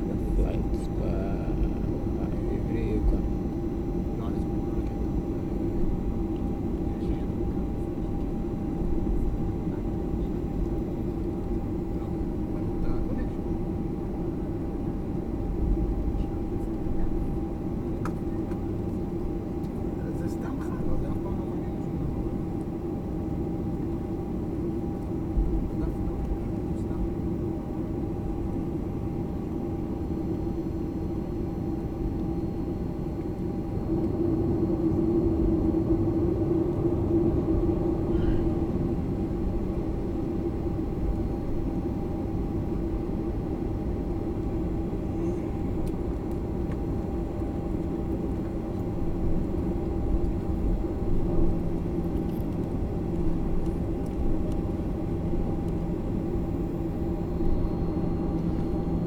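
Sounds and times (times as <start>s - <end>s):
constant cabin hum: 0.0s - 59.0s
jet engines and airflow rumble: 0.0s - 59.0s.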